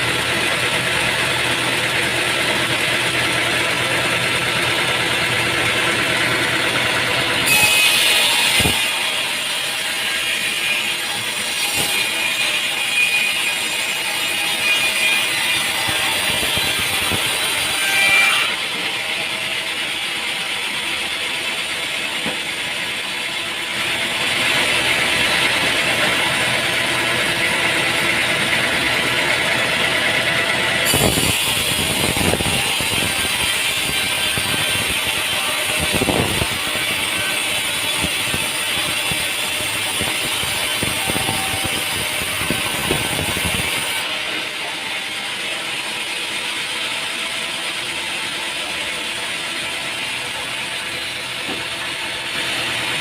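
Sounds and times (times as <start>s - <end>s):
sawmill machinery clattering: 0.0s - 53.0s.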